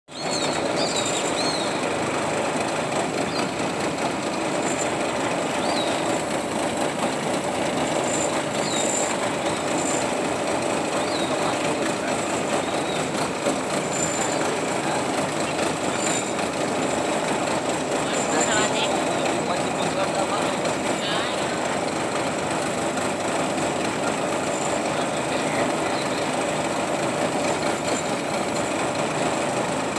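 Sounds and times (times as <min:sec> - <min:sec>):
steady mechanical drone: 0:00.1 - 0:29.9.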